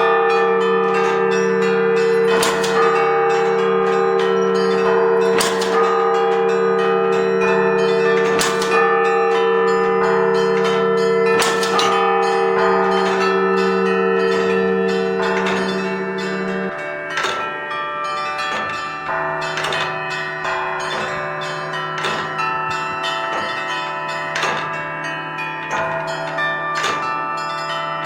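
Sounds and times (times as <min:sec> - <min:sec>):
church bells pealing: 0:00.0 - 0:28.0
heavy bell stroke: 0:00.0 - 0:28.0
steady low bell tones: 0:00.0 - 0:28.0.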